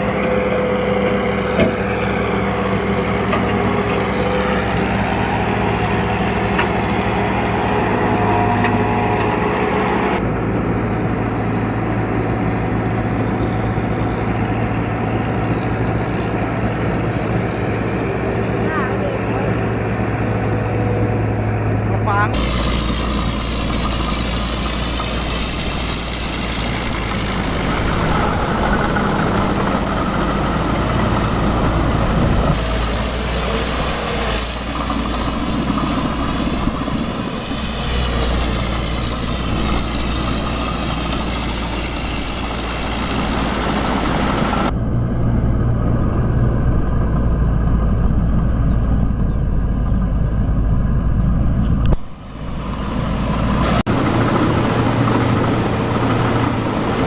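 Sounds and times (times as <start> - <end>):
high wavering whine: 0.0 - 57.0
tractor engine running: 0.0 - 57.0.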